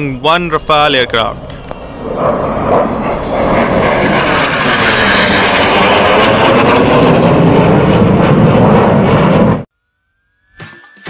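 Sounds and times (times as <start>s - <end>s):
jet engine roar flying past: 0.0s - 9.7s.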